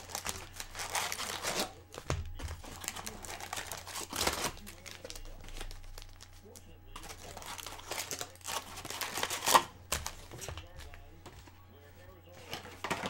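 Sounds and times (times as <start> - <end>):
foil packs crinkling: 0.0 - 11.2.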